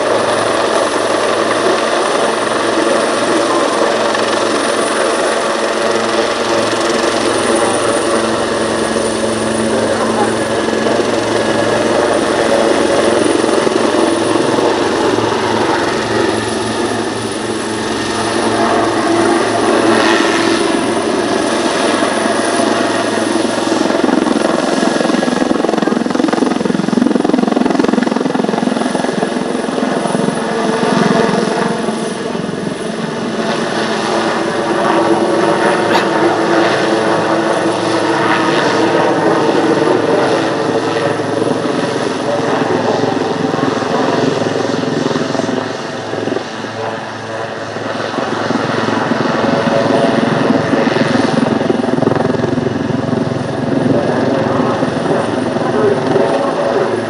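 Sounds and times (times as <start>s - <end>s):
helicopter rotors beating: 0.0s - 57.0s
turbine engines running: 0.0s - 57.0s.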